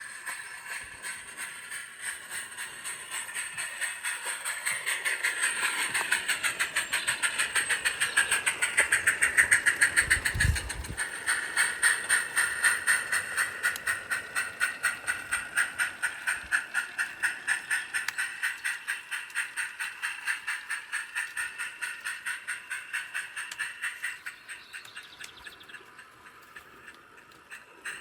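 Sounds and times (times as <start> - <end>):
steam locomotive chuffing: 0.0 - 28.0.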